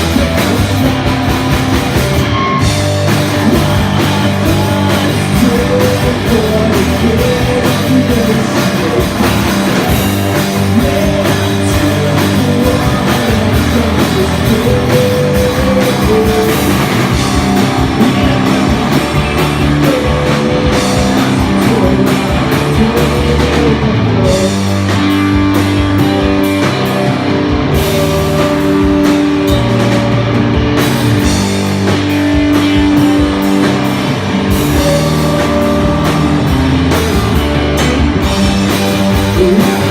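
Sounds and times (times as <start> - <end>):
drum kit: 0.0 - 39.9
electric guitar: 0.0 - 39.9
person singing: 2.3 - 30.4, 32.1 - 39.9.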